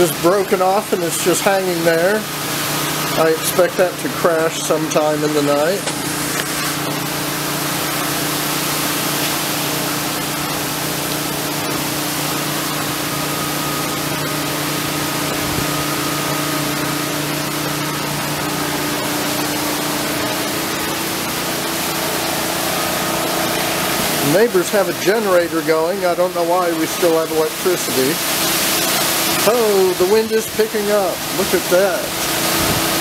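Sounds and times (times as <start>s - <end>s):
generator humming: 0.0s - 33.0s.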